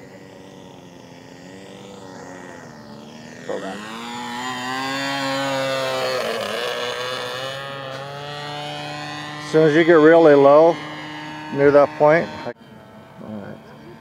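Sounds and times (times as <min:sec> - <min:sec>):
model plane engine at high throttle: 0:00.0 - 0:14.0.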